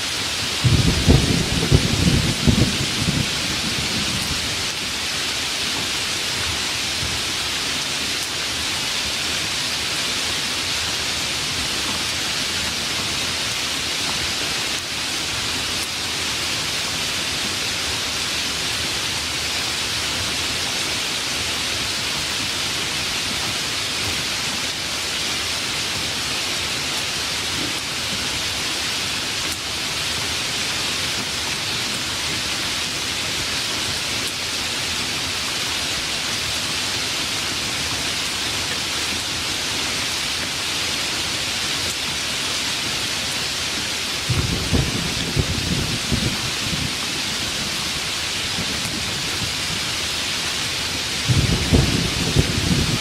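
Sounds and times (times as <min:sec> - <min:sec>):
heavy rainfall hiss: 0:00.0 - 0:53.0.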